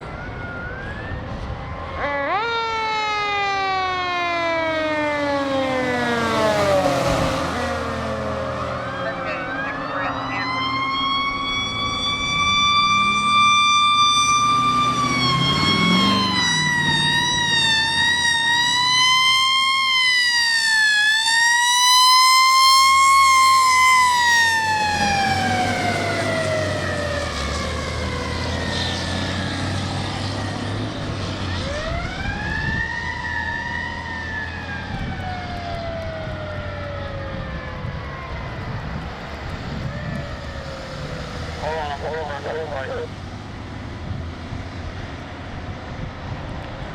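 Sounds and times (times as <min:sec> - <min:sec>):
fire engine siren wailing: 0:00.0 - 0:46.9
low rumble of truck engines: 0:00.0 - 0:46.9.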